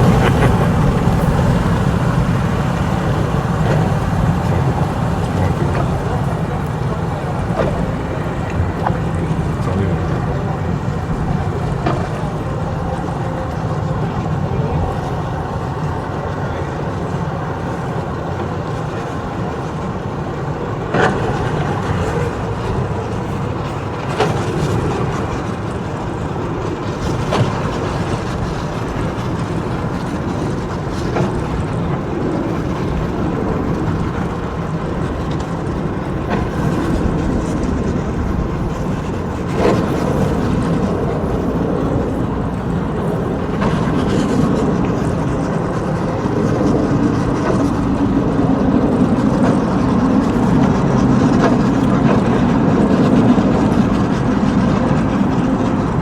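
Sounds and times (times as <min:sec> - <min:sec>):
boat motors running: 0:00.0 - 0:56.0.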